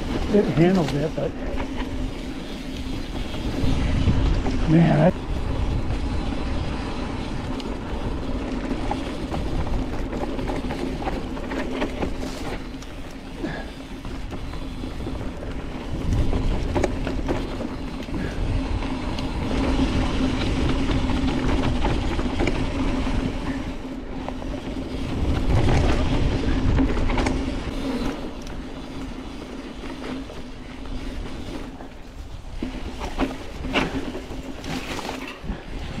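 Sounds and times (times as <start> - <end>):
bike rattling: 0.0 - 36.0
bike tyres rumbling on dirt: 0.0 - 36.0.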